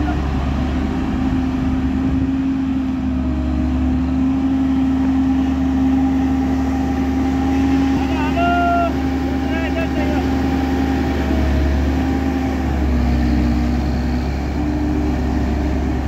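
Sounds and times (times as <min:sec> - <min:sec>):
road roller diesel engine droning: 0:00.0 - 0:16.0.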